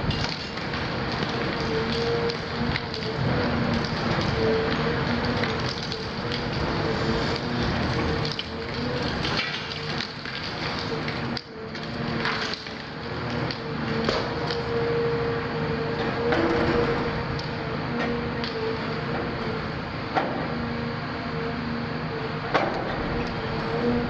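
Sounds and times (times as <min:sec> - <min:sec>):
excavator engine and hydraulics whine: 0:00.0 - 0:24.0.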